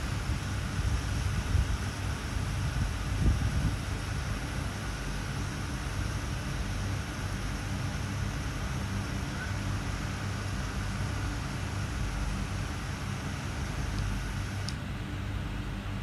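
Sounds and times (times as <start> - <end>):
low machine-like hum: 0.0 - 16.0.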